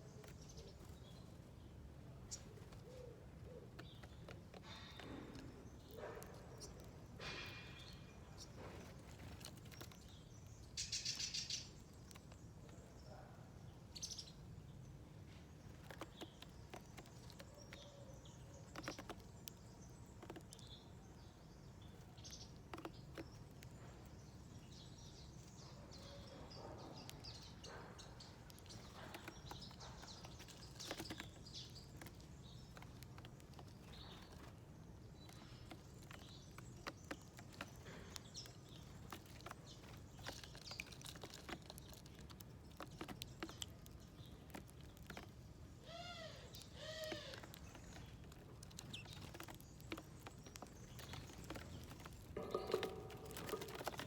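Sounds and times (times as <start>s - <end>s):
small birds calling: 0.0s - 54.0s.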